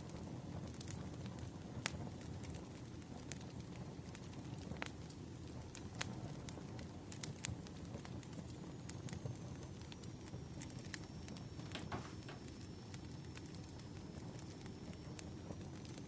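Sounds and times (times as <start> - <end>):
firewood crackles and pops: 0.0 - 16.0
low fire rumble: 0.0 - 16.0.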